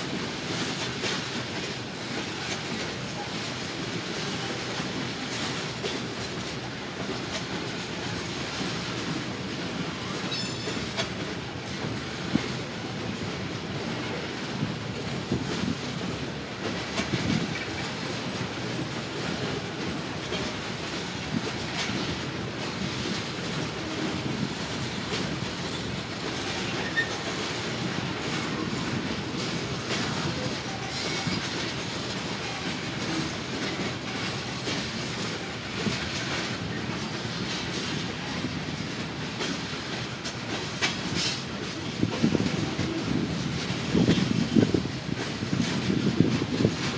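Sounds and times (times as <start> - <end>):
train cars rumbling: 0.0 - 46.9
train wheels clattering over rail joints: 0.1 - 46.9.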